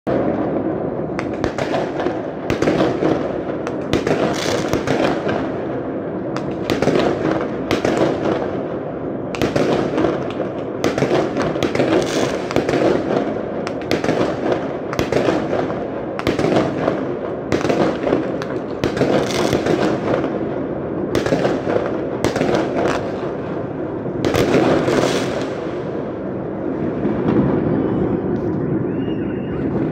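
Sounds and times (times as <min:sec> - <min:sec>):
fireworks bangs and crackling: 0:00.0 - 0:29.9.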